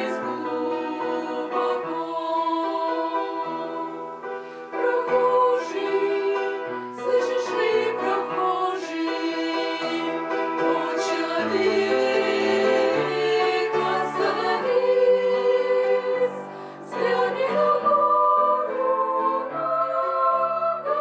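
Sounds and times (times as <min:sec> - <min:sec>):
women singing in harmony: 0:00.0 - 0:21.0.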